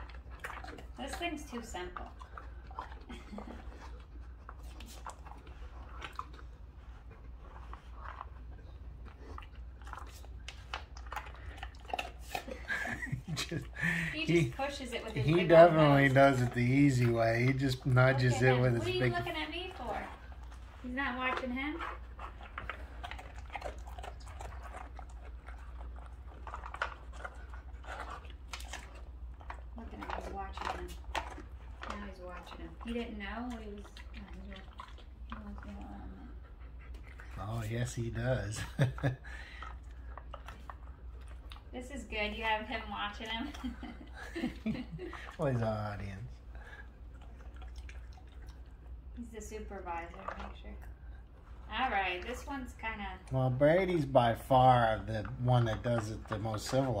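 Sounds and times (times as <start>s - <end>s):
dog chewing treats: 0.0s - 57.0s.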